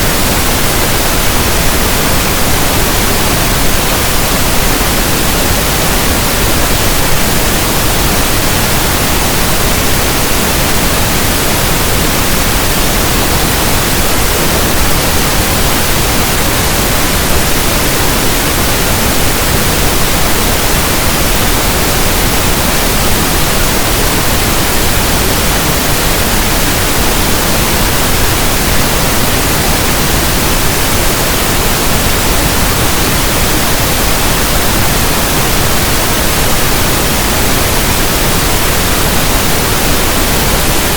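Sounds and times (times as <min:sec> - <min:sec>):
steady static hiss: 0:00.0 - 0:40.9.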